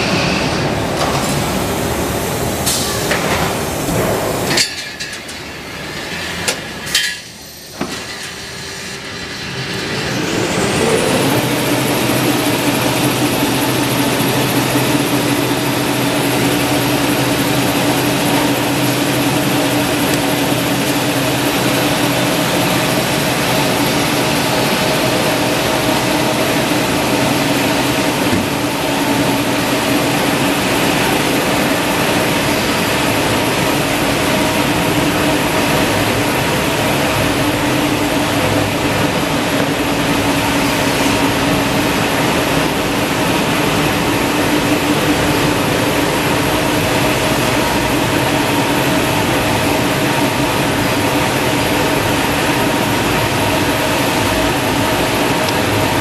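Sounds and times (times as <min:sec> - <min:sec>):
paper machine rollers din: 0:05.3 - 0:56.0.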